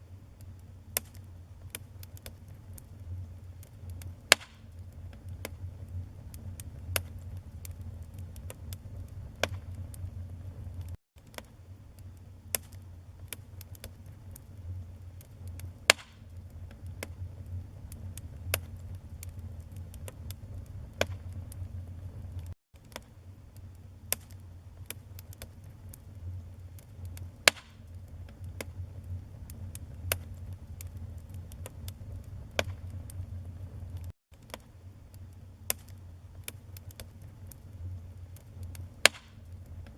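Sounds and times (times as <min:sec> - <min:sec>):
wood fire crackling and popping: 0:00.3 - 0:39.9.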